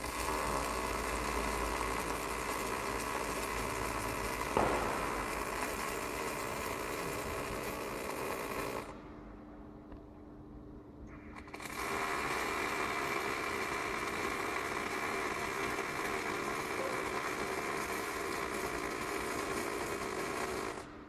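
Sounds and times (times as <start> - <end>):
welding arc crackling: 0.0 - 9.1, 11.1 - 21.0.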